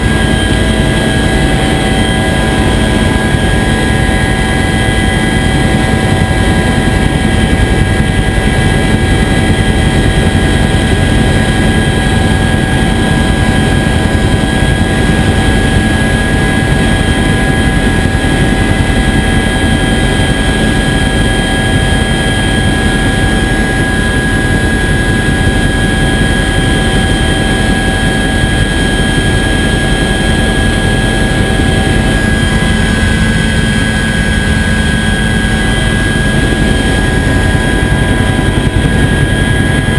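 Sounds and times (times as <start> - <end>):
helicopter engine and rotor noise: 0.0 - 39.9
helicopter engine whine: 0.0 - 39.9.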